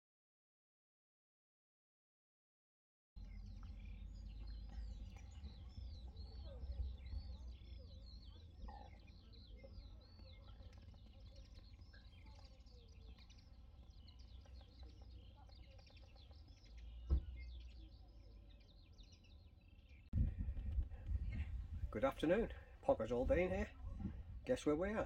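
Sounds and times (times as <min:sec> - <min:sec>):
faint low rumble: 0:03.2 - 0:25.0
small birds singing and chirping: 0:03.2 - 0:25.0.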